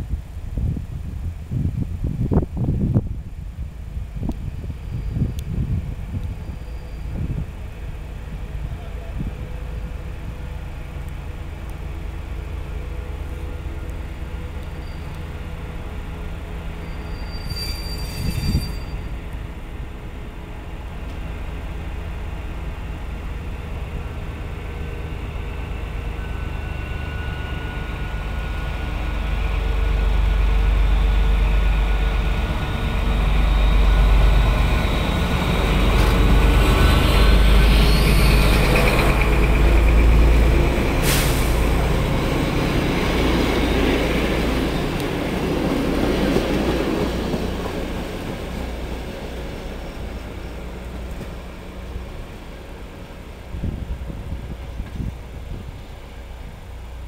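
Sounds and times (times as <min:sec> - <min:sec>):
diesel locomotive engine rumble: 0:00.0 - 0:57.0
train wheel noise: 0:03.8 - 0:57.0.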